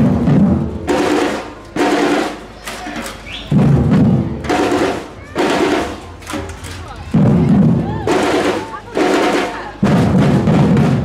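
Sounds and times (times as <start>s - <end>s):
street drumming band: 0.0s - 11.0s.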